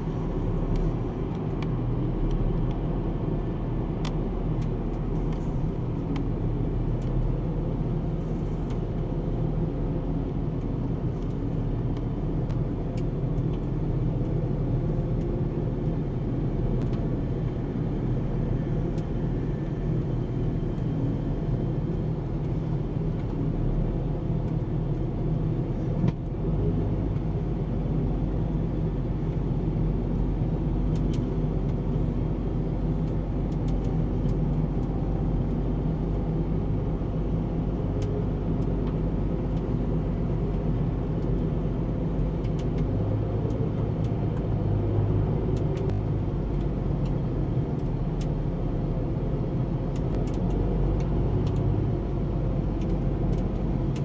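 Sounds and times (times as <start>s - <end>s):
tractor engine drone: 0.0s - 54.0s.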